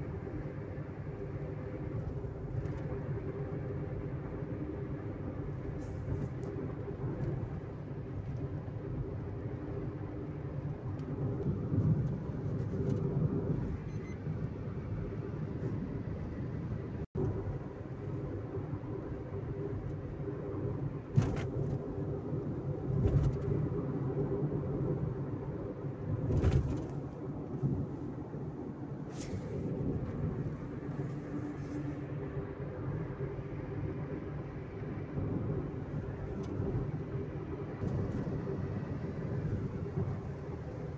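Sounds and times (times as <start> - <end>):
car road and engine noise: 0.0 - 40.9.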